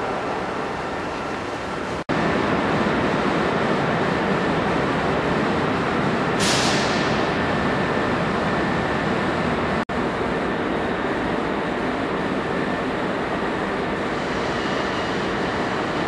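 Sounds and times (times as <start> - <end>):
electric trains in station: 0.0 - 16.0.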